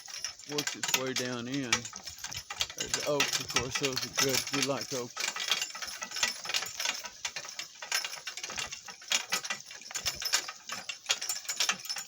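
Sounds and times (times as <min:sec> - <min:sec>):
cart rattling over bumpy ground: 0:00.0 - 0:12.0.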